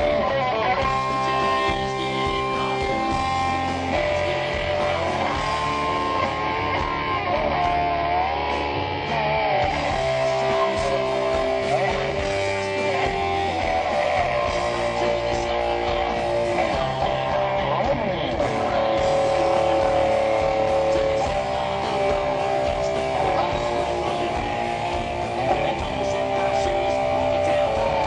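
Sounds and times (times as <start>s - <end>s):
bass and drums: 0.0s - 28.0s
electric guitar sustained notes: 0.0s - 28.0s.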